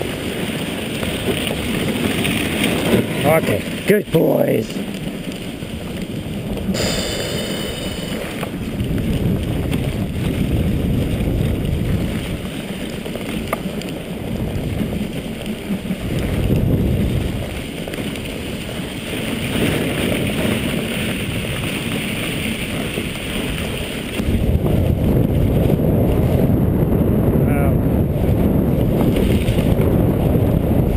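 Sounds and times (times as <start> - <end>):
sled runners rushing on snow: 0.0 - 30.9
wind buffeting microphone: 0.0 - 30.9.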